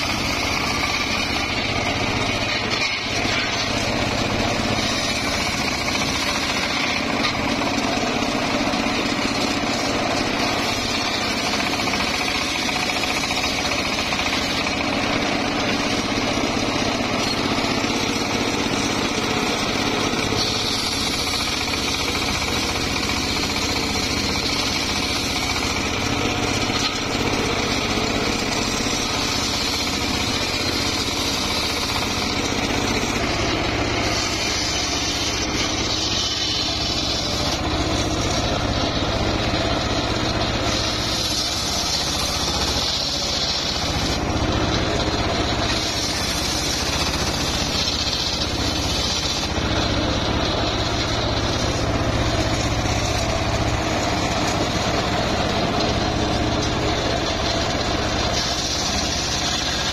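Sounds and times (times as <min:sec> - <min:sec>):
circular saw running: 0:00.0 - 0:59.9
saw blade cutting wood: 0:00.0 - 0:59.9.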